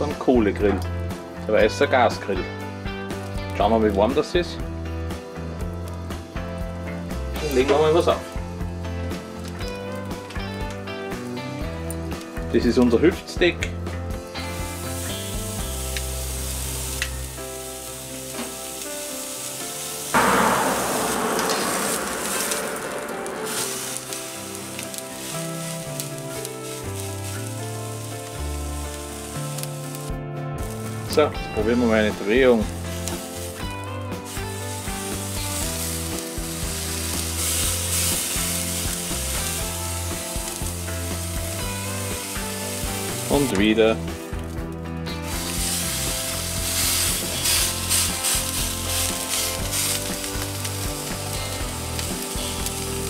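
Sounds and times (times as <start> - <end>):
steak sizzling on grill: 0.0 - 20.4, 23.2 - 53.0
background music: 0.0 - 53.0.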